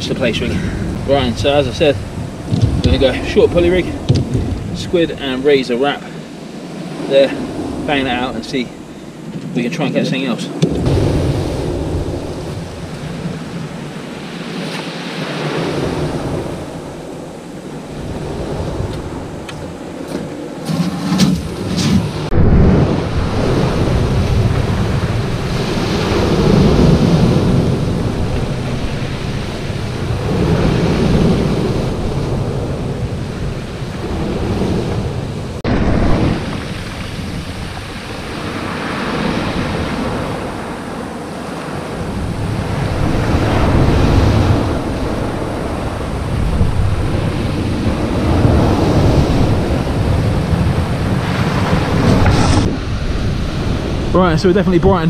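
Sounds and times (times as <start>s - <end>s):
waves breaking on shingle beach: 0.0s - 55.0s.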